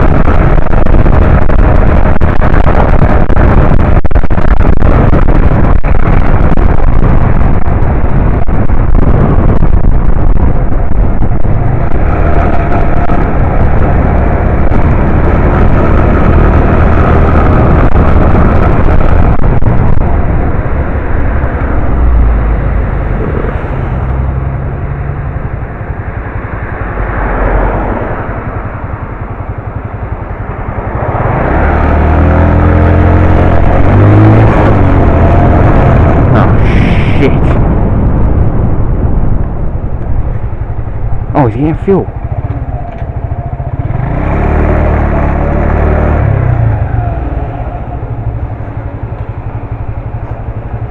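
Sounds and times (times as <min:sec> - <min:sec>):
wind rush on microphone: 0:00.0 - 0:50.9.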